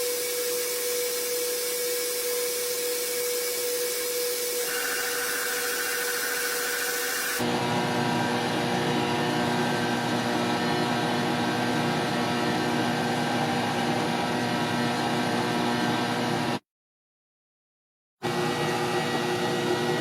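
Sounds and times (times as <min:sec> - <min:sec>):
machine motor humming and hissing: 0:00.0 - 0:16.5.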